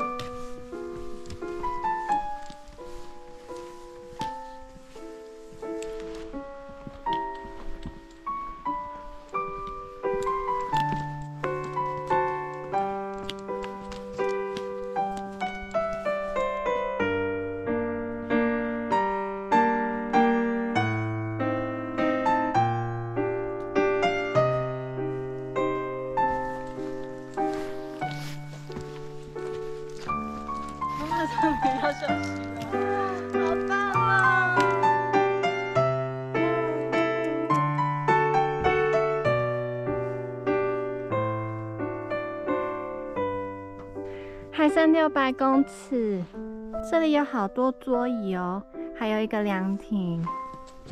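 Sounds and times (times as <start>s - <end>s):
slow piano music: 0.0s - 50.9s.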